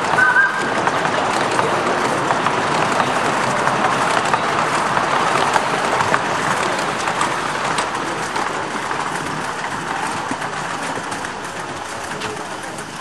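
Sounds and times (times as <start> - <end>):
train wheels clattering over track: 0.0 - 13.0.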